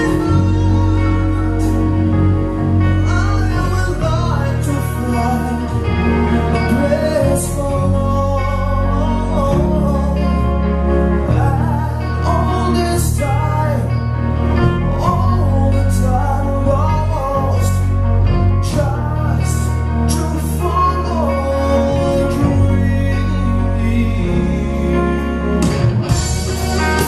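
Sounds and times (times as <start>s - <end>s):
man singing: 0.0s - 27.0s
rock band playing: 0.0s - 27.0s.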